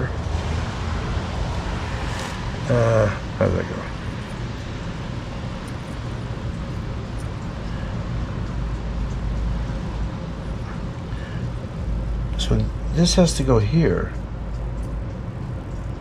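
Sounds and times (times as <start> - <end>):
background rumble and hiss: 0.0 - 16.0
low hum: 0.0 - 16.0.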